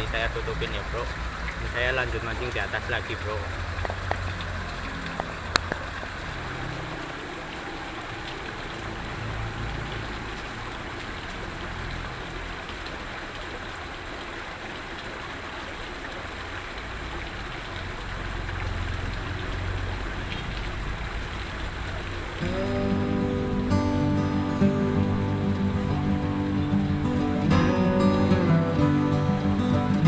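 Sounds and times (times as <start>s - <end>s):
rain hissing: 0.0s - 30.0s.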